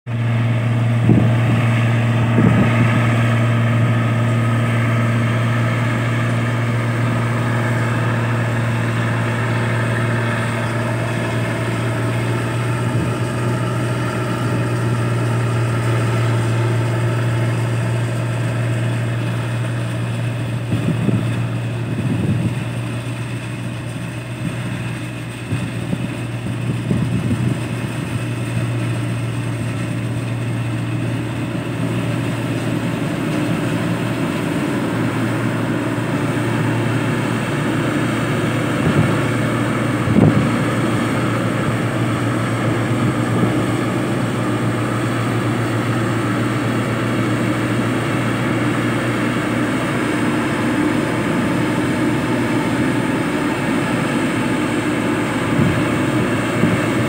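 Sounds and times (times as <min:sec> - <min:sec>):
combine harvester engine hum: 0:00.1 - 0:57.0
machinery whine: 0:00.1 - 0:57.0.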